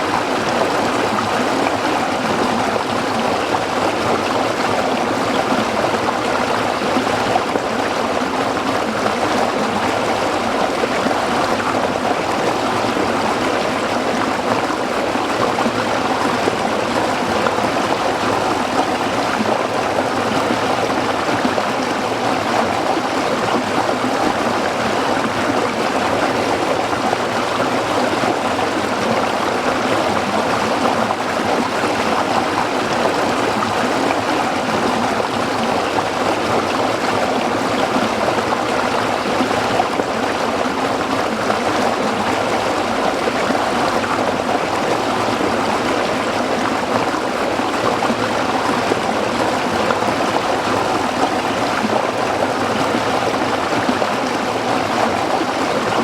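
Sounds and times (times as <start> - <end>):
stream burbling over rocks: 0.0 - 56.0.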